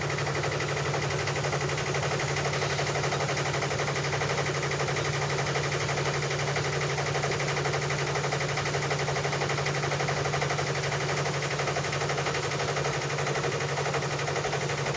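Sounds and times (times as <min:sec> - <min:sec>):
boat motor running: 0:00.0 - 0:14.9.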